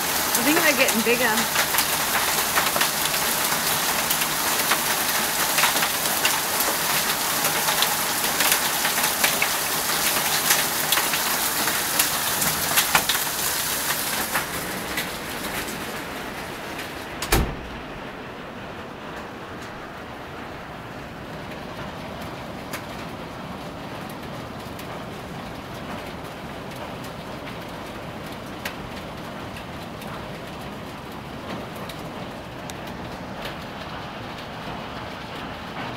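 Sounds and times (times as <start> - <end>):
hail and heavy rain pelting: 0.0 - 35.9.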